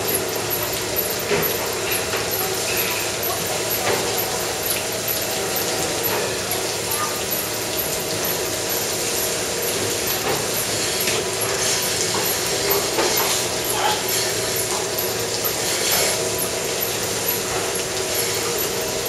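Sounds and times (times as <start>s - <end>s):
milking machinery hum and hiss: 0.0s - 19.0s.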